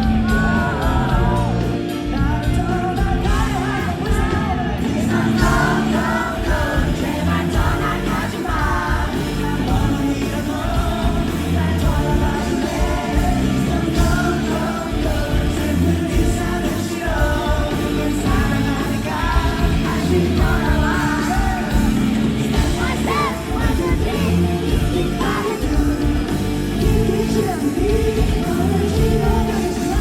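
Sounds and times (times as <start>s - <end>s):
person singing: 0.0s - 30.0s
rock band playing live: 0.0s - 30.0s.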